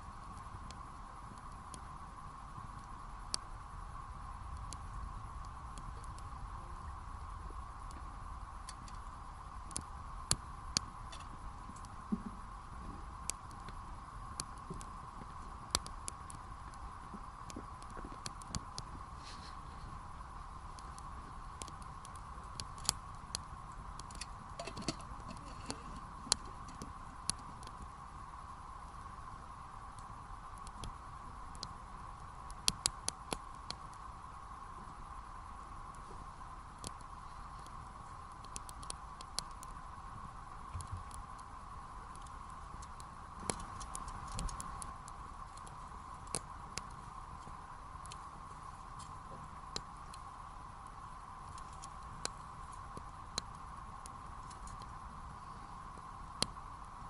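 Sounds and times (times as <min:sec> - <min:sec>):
campfire crackling and popping: 0:00.0 - 0:57.0
steady background hiss: 0:00.0 - 0:57.0.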